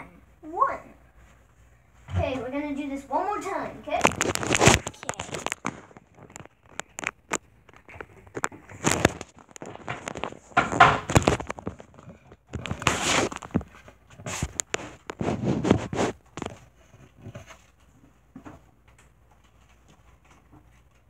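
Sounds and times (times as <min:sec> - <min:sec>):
recording device handling: 0:04.0 - 0:21.0.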